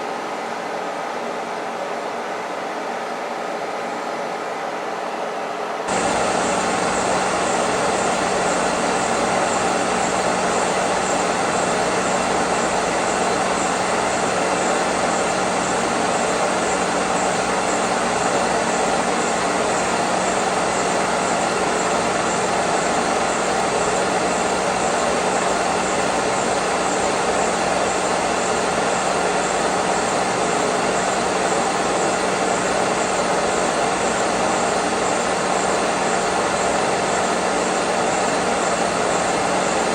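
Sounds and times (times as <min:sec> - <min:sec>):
milling machine hum: 0:05.9 - 0:39.9.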